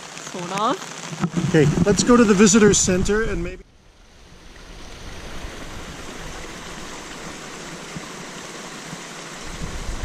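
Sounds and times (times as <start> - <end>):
steady hiss of water: 0.0 - 10.0.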